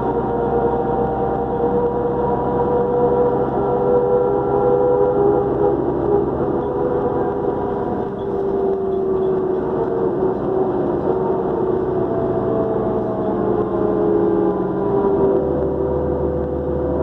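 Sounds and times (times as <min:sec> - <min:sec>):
bus engine running: 0:00.0 - 0:17.0
turbocharger whine: 0:00.0 - 0:17.0.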